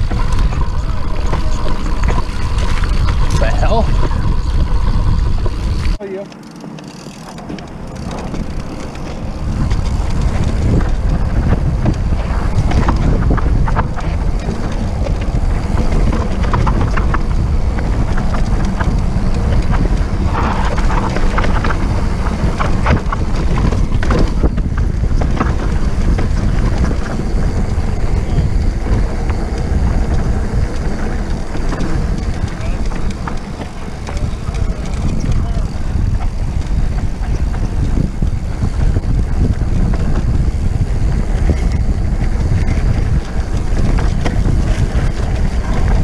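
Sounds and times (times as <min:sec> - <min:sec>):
wind buffeting microphone: 0:00.0 - 0:06.0, 0:06.9 - 0:46.0
bike rattling and clicking: 0:00.0 - 0:46.0
tyres running over dirt: 0:00.0 - 0:46.0.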